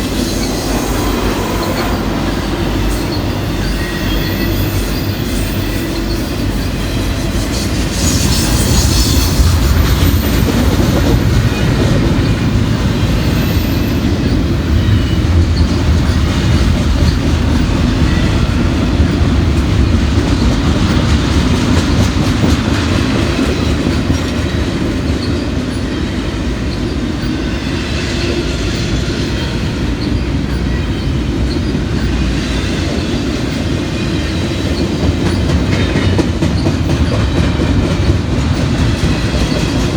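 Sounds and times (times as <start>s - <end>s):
freight train wheels clicking: 0.0s - 39.9s
train rumble: 0.0s - 39.9s.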